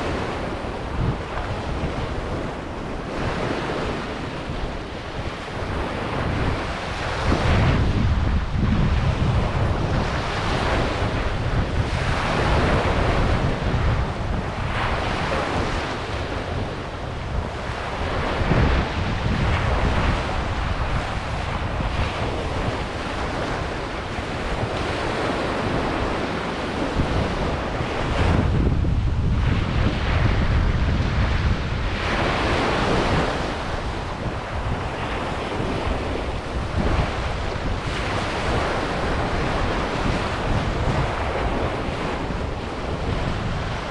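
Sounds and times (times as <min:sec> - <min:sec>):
ocean waves breaking: 0:00.0 - 0:43.9
wind buffeting microphone: 0:00.0 - 0:43.9.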